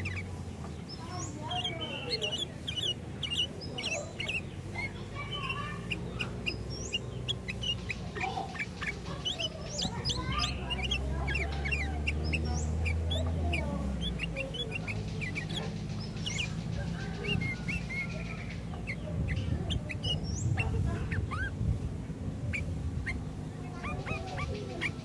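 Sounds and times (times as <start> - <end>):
birds chirping whistled notes: 0.0 - 25.0.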